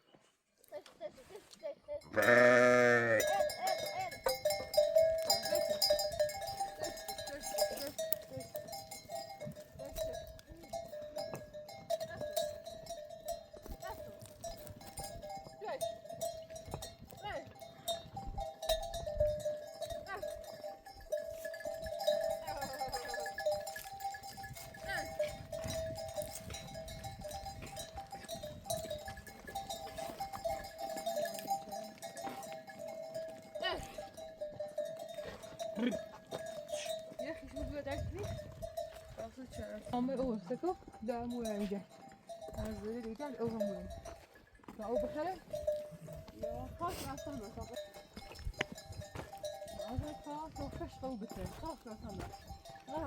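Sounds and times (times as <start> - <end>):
metal livestock bells clinking: 1.4 - 53.0.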